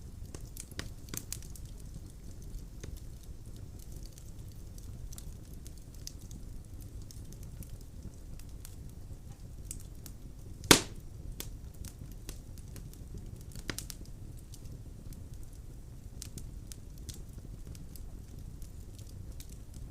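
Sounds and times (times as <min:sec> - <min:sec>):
burning logs popping: 0:00.0 - 0:19.9
wood fire crackling: 0:00.0 - 0:19.9.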